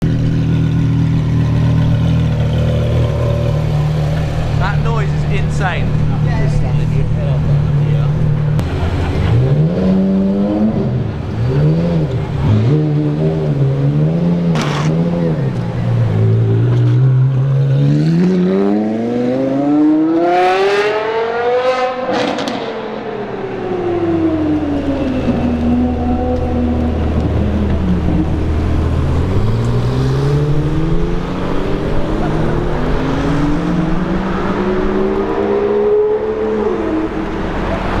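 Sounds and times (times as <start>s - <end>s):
sports car engine revving: 0.1s - 38.0s.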